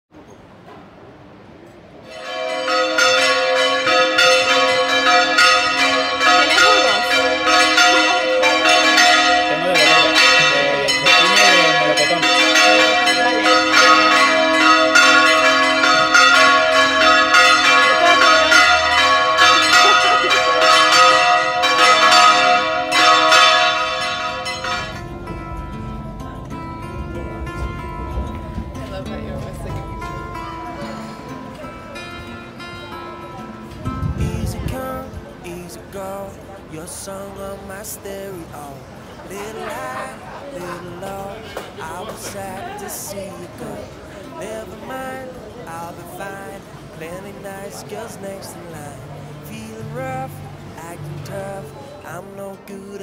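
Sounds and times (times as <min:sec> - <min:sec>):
church bells pealing: 0:02.0 - 0:53.0.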